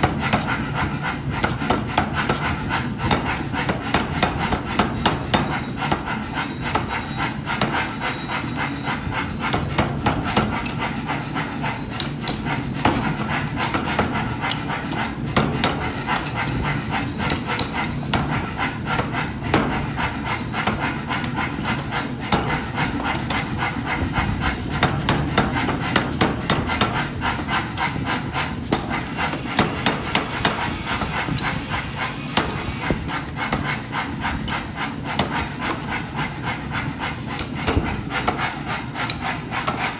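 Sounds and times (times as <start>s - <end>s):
hammer strikes on metal: 0.0s - 39.9s
metal scraping and rasping: 0.0s - 39.9s.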